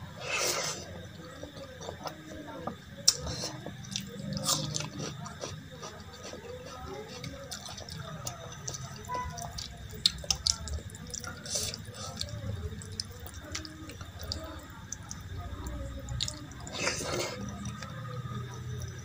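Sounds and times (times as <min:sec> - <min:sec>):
wet squishing of food by hand: 0:00.0 - 0:19.0.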